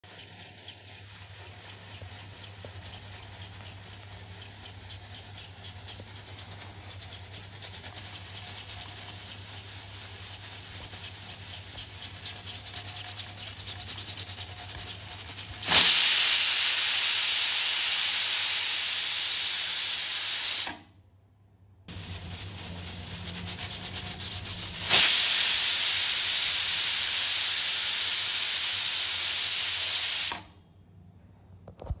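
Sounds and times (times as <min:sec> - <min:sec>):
pressure cooker steam hissing: 0:00.1 - 0:20.8, 0:21.9 - 0:30.5.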